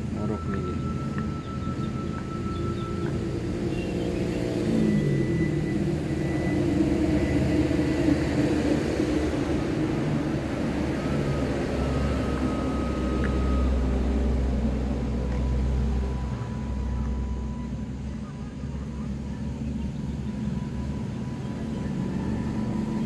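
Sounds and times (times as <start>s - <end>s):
vehicle engine drone: 0.0s - 23.0s.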